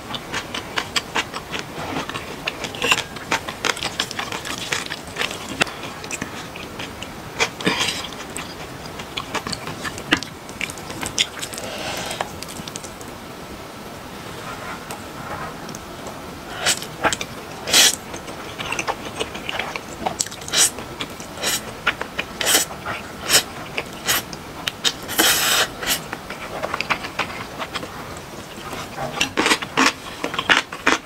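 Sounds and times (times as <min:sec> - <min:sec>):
person chewing food: 0:00.0 - 0:13.1, 0:16.5 - 0:31.0.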